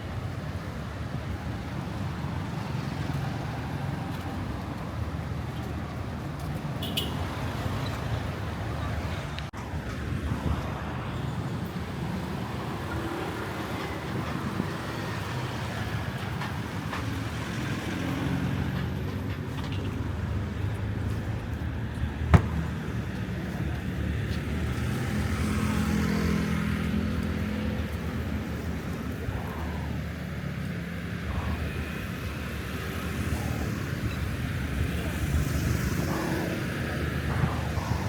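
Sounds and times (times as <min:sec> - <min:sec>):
vehicles passing by: 0:00.0 - 0:38.0.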